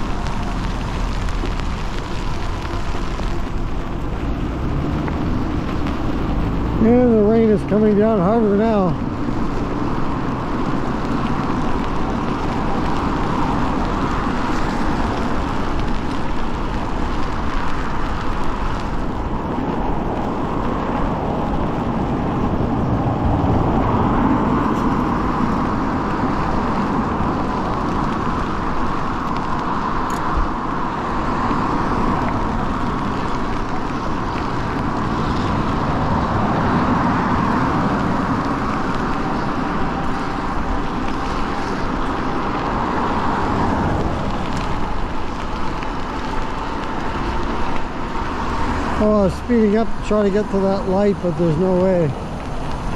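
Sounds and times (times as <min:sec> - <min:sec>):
cars passing on wet road: 0:00.0 - 0:52.9
tyres hissing on wet pavement: 0:00.0 - 0:52.9.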